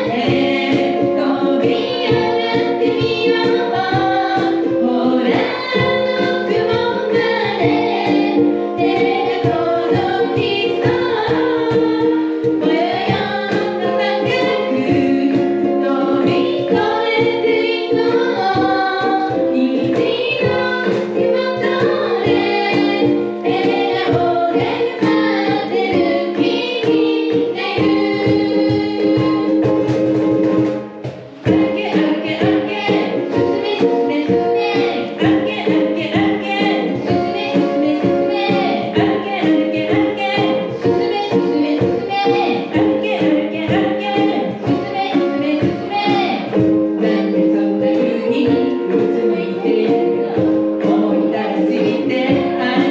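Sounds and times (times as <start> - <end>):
people singing together: 0.0 - 52.9
ukuleles strumming: 0.0 - 52.9.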